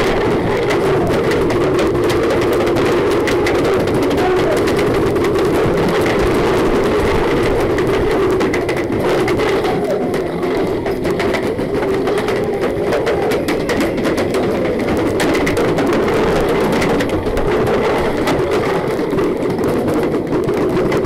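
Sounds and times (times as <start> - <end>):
balls striking wooden walls: 0.0 - 21.0.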